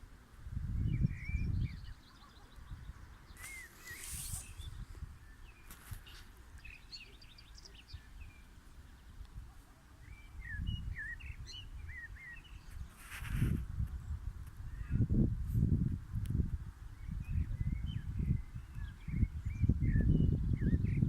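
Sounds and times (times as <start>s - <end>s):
songbirds chirping and trilling: 0.0s - 15.4s, 16.0s - 21.0s.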